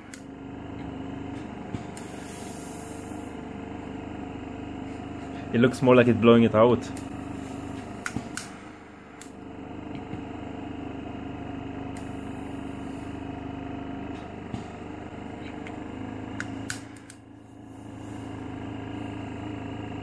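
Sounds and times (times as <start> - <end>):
compressor humming: 0.0 - 20.0.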